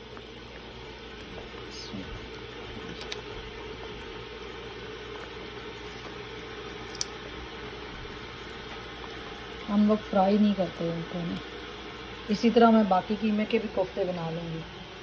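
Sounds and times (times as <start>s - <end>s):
gravy simmering in a pot: 0.0s - 15.0s.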